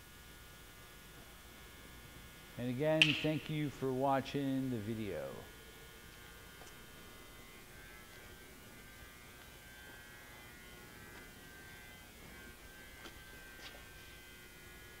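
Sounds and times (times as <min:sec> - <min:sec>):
electrical hum with high whine: 0:00.0 - 0:15.0.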